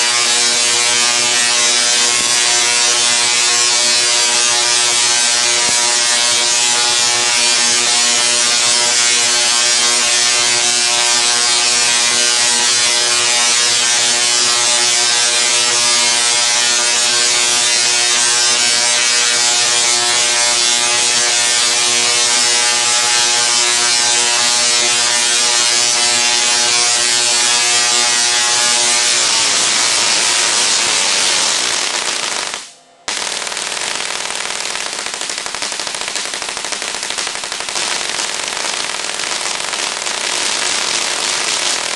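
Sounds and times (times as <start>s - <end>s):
tesla coil buzzing crackle: 0.0s - 41.9s.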